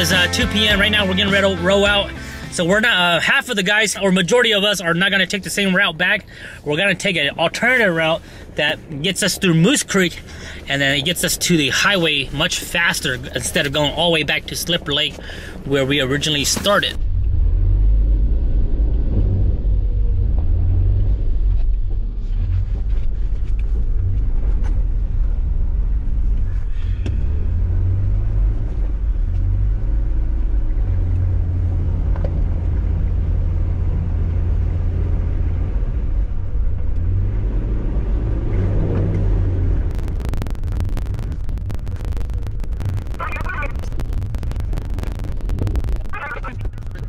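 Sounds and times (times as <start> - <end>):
off-road vehicle engine rumbling: 0.0 - 47.0.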